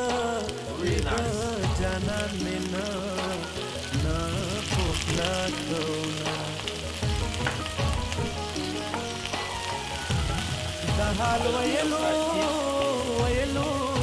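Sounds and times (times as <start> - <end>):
background music with melody: 0.0 - 14.0
prawns sizzling in oil: 0.0 - 14.0.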